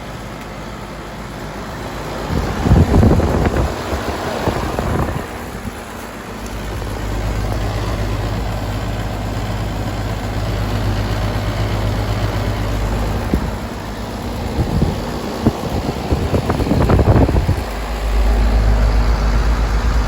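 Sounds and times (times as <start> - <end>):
compressor low hum: 0.0 - 20.0
condenser fan rushing: 0.0 - 20.0
rough rushing noise: 2.2 - 20.0.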